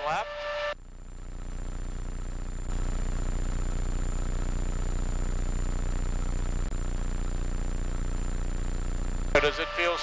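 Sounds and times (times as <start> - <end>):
helicopter engine and rotor drone: 0.0 - 10.0
thin high whine: 0.0 - 10.0.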